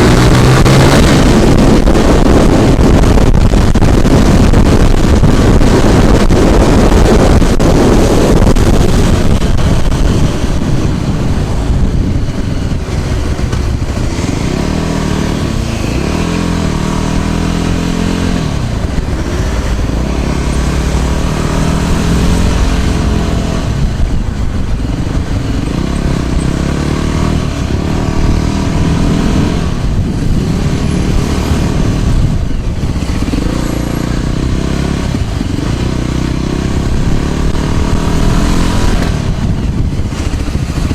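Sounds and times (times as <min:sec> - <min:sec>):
motor scooter engine: 0:00.0 - 0:40.9
wind buffeting microphone: 0:00.0 - 0:40.9.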